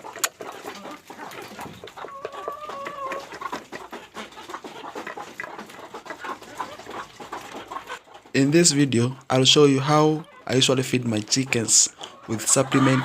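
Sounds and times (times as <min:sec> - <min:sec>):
drawn-out chicken call: 0:00.0 - 0:08.6, 0:09.8 - 0:13.0
chickens clucking: 0:00.0 - 0:13.0.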